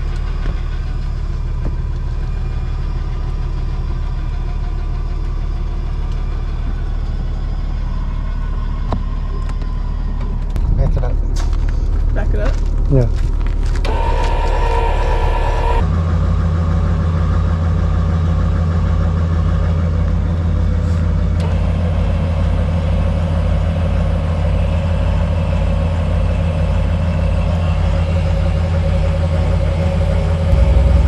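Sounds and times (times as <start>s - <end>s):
pickup truck engine humming: 0.0s - 10.5s, 11.2s - 31.0s.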